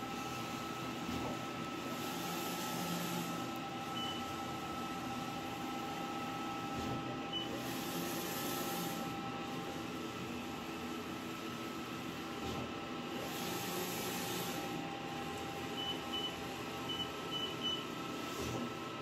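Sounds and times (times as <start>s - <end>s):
printer mechanical hum: 0.0s - 19.0s.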